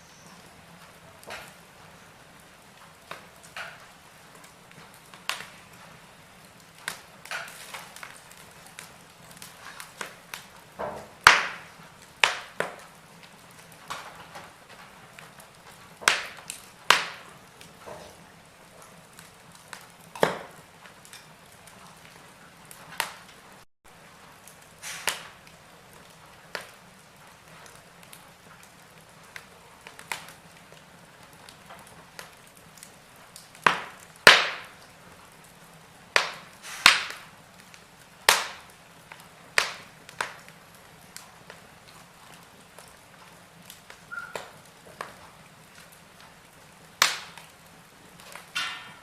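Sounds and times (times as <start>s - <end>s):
burning logs popping: 0.0s - 49.0s
faint steady hiss: 0.0s - 49.0s
wood fire crackling: 0.0s - 49.0s.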